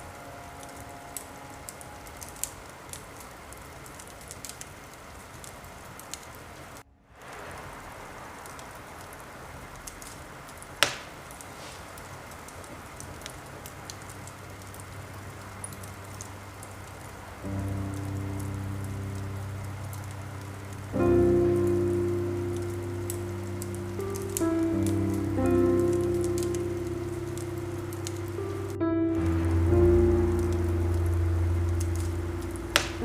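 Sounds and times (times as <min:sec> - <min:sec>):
fireplace crackling: 0:00.0 - 0:33.0
steady rain: 0:00.0 - 0:33.0.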